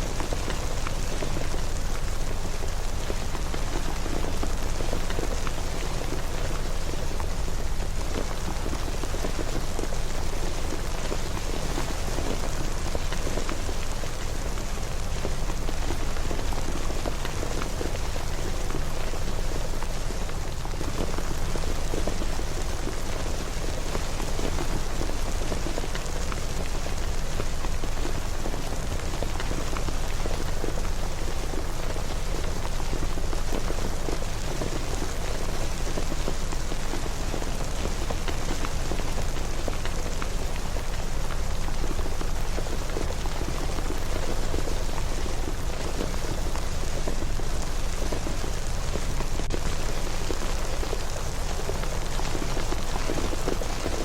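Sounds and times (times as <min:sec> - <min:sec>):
rain pattering on hard surfaces: 0:00.0 - 0:54.0.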